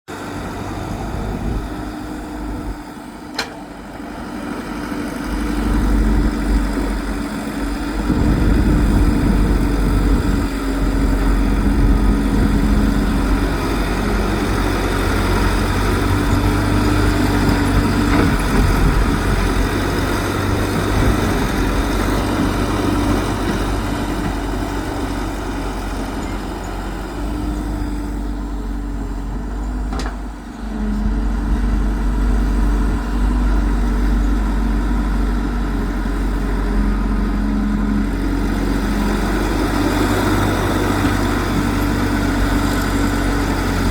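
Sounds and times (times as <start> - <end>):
excavator diesel engine running: 0.1 - 43.9.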